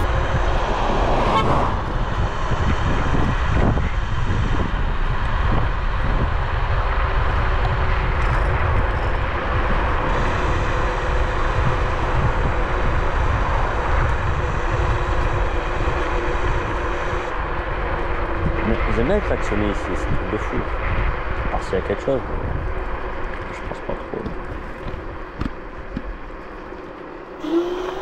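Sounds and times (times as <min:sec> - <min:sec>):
wind rushing over microphone: 0:00.0 - 0:26.3
tyre and road noise: 0:00.0 - 0:28.0.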